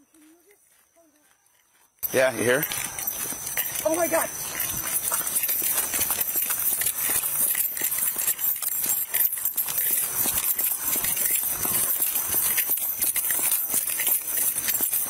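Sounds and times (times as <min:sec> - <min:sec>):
hurried footsteps on pavement: 0:00.0 - 0:15.0.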